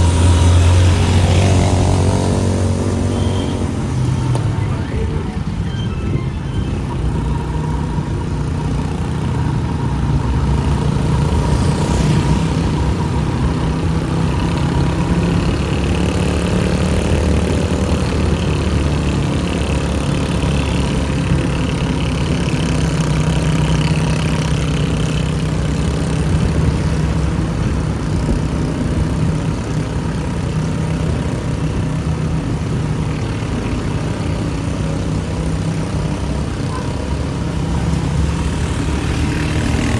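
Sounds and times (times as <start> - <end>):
motorcycle engine rumbling: 0.0 - 39.9
street traffic: 0.0 - 39.9.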